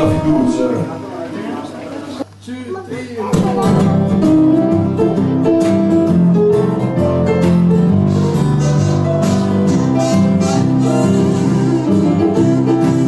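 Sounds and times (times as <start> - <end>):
acoustic guitar music: 0.0 - 2.2, 3.3 - 13.0.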